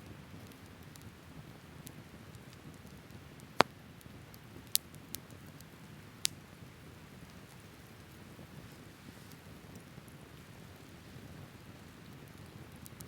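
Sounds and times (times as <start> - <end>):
burning wood crackling pops: 0.0 - 13.0
wood fire rumbling: 0.1 - 13.0.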